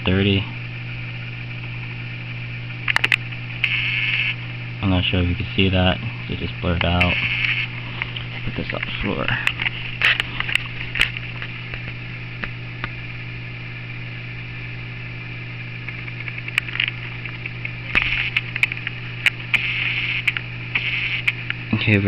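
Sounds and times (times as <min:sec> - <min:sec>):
constant hiss: 0:00.0 - 0:22.0
electrical hum: 0:00.0 - 0:22.0.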